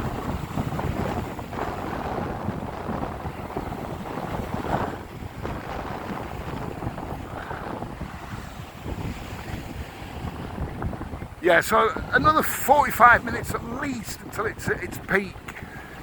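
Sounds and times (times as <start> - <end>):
waves surging and breaking: 0.0 - 16.0
wind buffeting microphone: 0.0 - 16.0.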